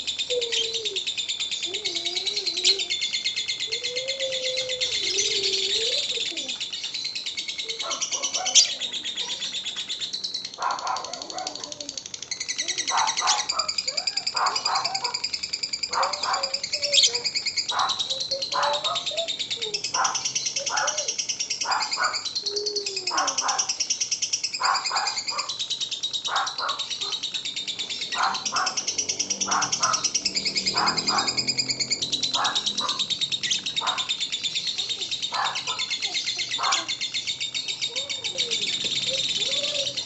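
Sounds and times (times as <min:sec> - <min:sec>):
lower bird calls: 0:00.0 - 0:23.8, 0:24.4 - 0:40.0
lovebird high-pitched chatter: 0:00.0 - 0:40.0.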